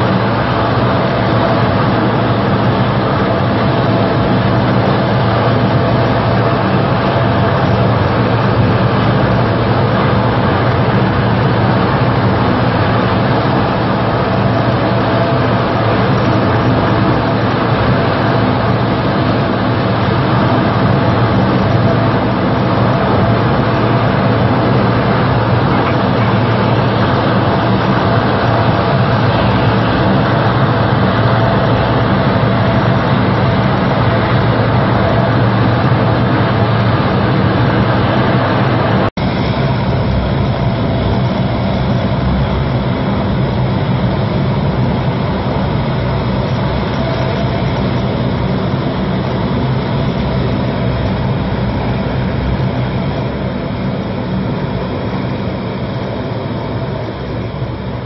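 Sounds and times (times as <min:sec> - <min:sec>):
low propeller hum: 0:00.0 - 0:58.0
turboprop engines droning: 0:00.0 - 0:58.0.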